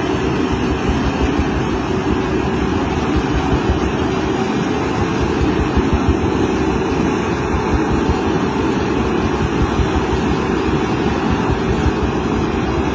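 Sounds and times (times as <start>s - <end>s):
harvester running: 0.0s - 12.9s.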